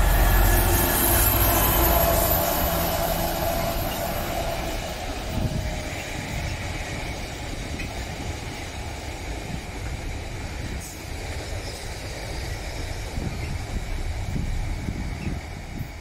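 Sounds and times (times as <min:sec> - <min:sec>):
diesel locomotive engine drone: 0:00.0 - 0:16.0
freight wagons rumbling past: 0:00.0 - 0:16.0.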